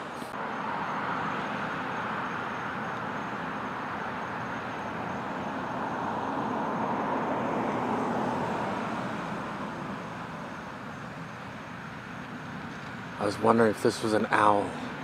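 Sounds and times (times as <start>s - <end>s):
passing vehicle hiss: 0.0s - 15.0s.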